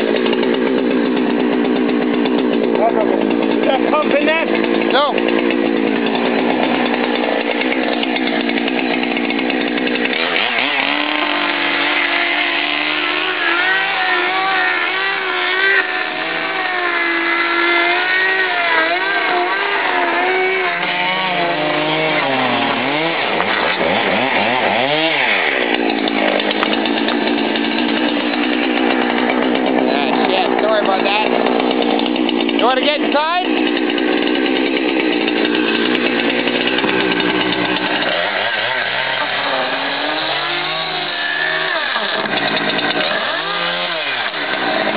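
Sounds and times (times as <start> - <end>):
chainsaw cutting plastic: 0.0 - 44.9.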